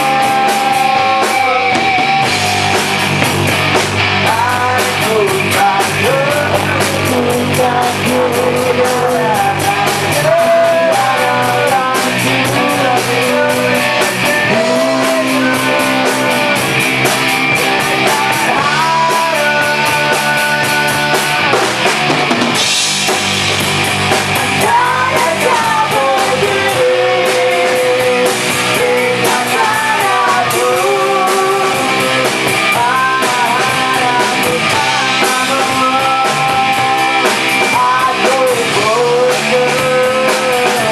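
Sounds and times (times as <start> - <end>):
man singing: 0.0 - 2.9, 4.2 - 22.0, 24.4 - 40.9
bass guitar: 0.0 - 40.9
drums with cymbals: 0.0 - 40.9
guitar: 0.0 - 40.9.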